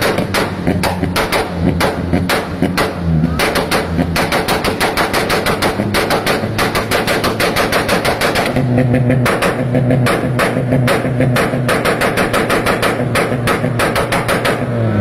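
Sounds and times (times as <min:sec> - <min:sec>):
car engine revving: 0:00.0 - 0:15.0
exhaust backfire pops: 0:00.0 - 0:15.0.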